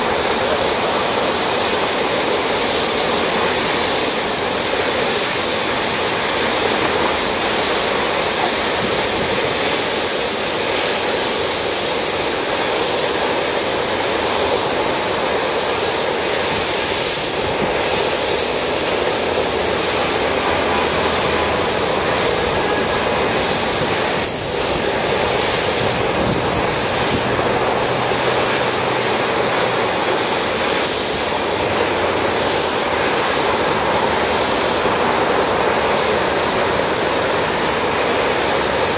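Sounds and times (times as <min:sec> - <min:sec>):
jet engines taxiing: 0:00.0 - 0:38.9.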